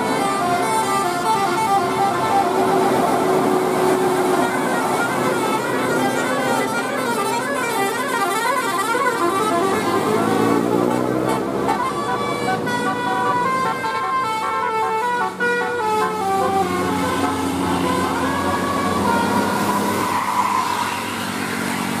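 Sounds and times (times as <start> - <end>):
musical bus air horn tune: 0.0 - 20.2.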